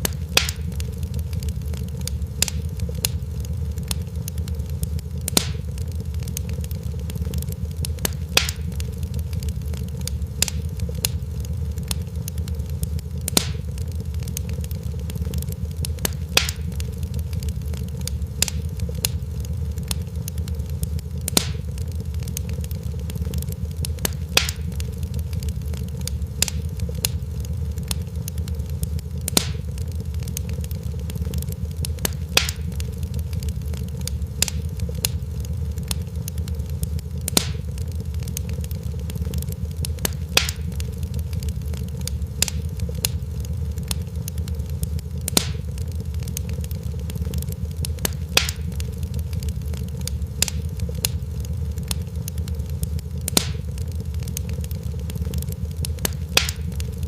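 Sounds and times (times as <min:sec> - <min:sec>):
fire crackling: 0:00.0 - 0:57.0
low rumble of burning: 0:00.0 - 0:57.0
sharp pops and snaps: 0:00.0 - 0:57.0.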